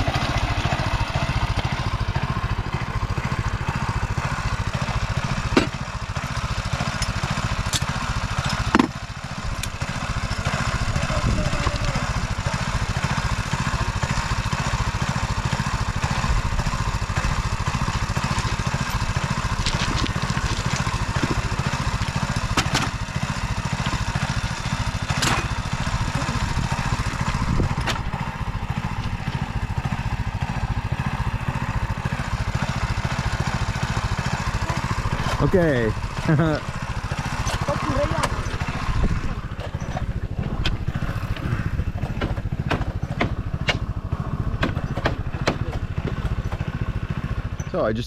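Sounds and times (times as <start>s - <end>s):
small petrol engine running: 0.0s - 48.0s.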